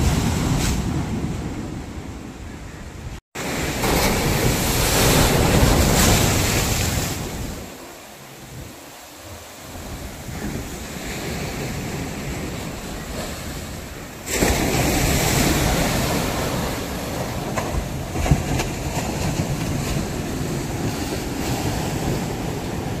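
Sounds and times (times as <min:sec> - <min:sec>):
waves breaking on seawall: 0:03.4 - 0:08.0, 0:09.0 - 0:23.0.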